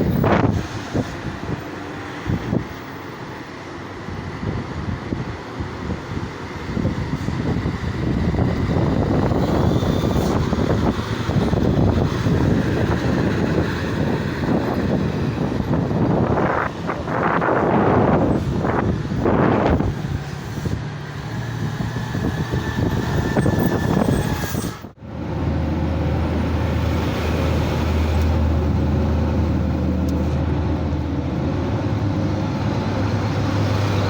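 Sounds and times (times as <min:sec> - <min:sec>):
wind buffeting microphone: 0:00.0 - 0:02.9, 0:04.0 - 0:34.0
truck diesel engine rumbling: 0:00.0 - 0:34.0.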